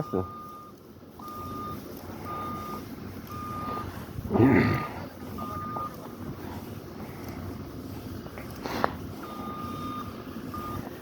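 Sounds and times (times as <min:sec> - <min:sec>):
vehicle backup alarm beeps: 0:00.0 - 0:07.4, 0:08.5 - 0:11.0
low engine rumble: 0:00.0 - 0:11.0.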